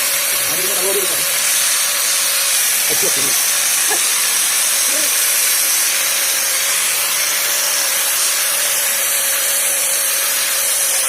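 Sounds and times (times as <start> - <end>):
angle grinder polishing: 0.0 - 11.0.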